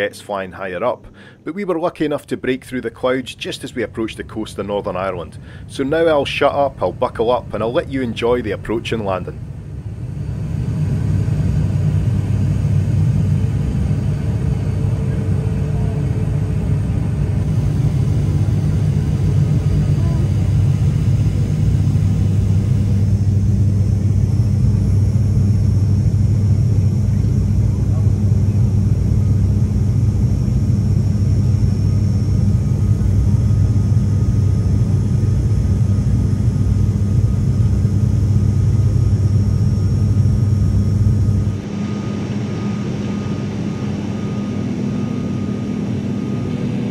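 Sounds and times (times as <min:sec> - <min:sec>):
propeller engine drone: 0:00.0 - 0:46.9.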